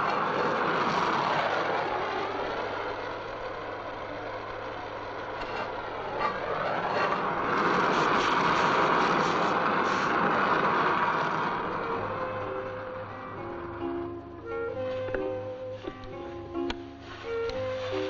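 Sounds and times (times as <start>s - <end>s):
vehicle engine revving: 0.0s - 16.2s.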